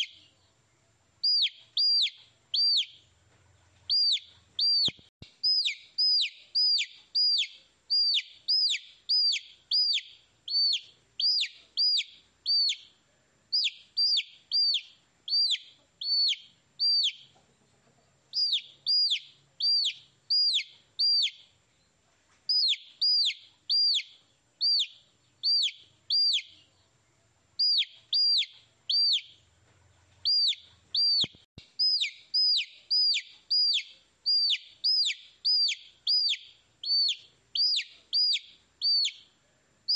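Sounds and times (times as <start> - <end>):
baby chick peeping: 0.0 - 39.9.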